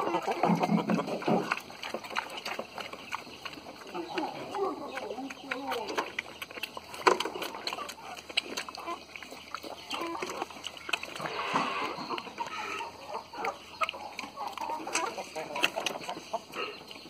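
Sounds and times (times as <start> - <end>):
hens clucking: 0.0 - 17.0
pig chewing and smacking: 0.0 - 17.0.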